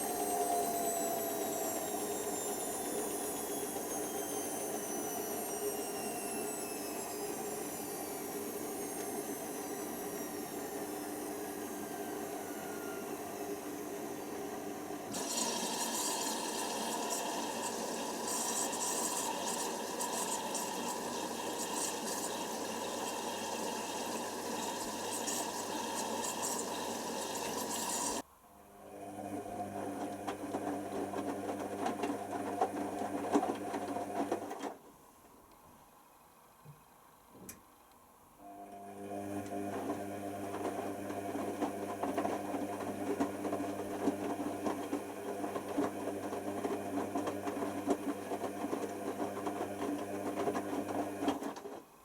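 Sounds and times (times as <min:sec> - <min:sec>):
washer dryer running: 0:00.0 - 0:34.8, 0:38.4 - 0:52.0.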